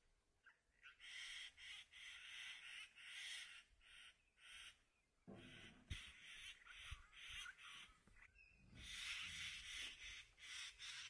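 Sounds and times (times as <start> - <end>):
harsh rasping bird calls: 0.4 - 11.0.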